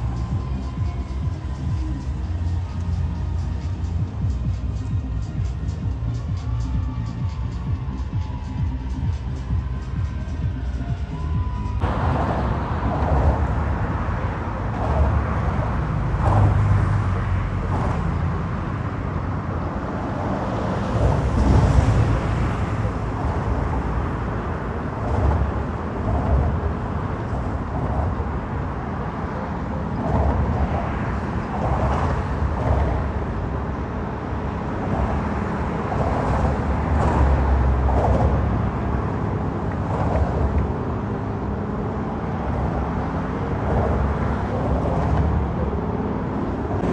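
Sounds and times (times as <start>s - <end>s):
cars passing: 0.0s - 46.9s
low rumble: 0.0s - 46.9s.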